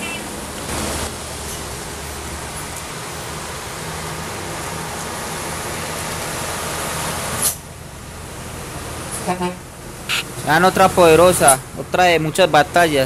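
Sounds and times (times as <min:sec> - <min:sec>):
tyres hissing on wet asphalt: 0:00.0 - 0:11.8
dull traffic hum: 0:00.0 - 0:13.0
truck diesel engine passing: 0:00.0 - 0:13.0.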